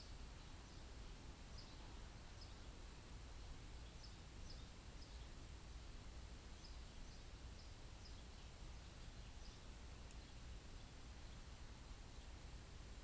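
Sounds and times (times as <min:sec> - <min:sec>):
distant birds chirping: 0:00.0 - 0:13.0
faint low background rumble: 0:00.0 - 0:13.0.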